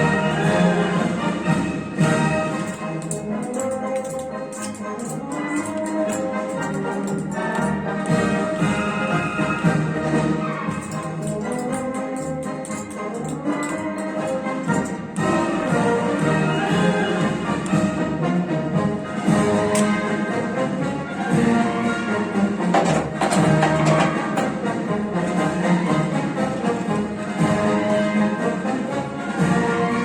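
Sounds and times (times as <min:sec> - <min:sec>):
orchestral music with brass: 0:00.0 - 0:30.0.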